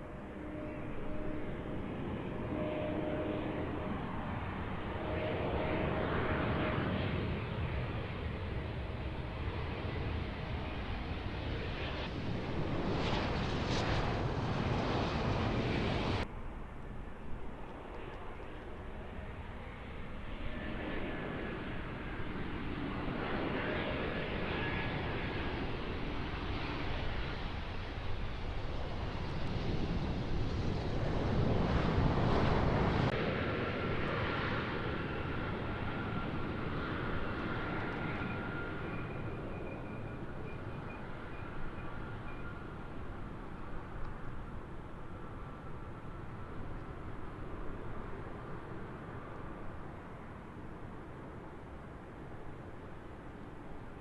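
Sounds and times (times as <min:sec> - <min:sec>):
airliner engines roaring: 0:00.0 - 0:54.0
distant aircraft rumble: 0:00.0 - 0:54.0.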